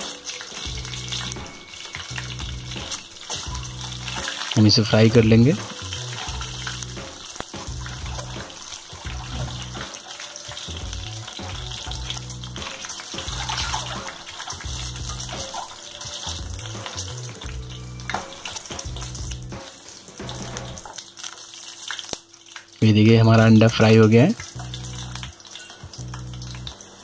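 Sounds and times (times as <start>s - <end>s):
background music with low bass: 0.0s - 20.9s, 23.4s - 27.0s
eggs sizzling in hot oil: 0.0s - 27.0s.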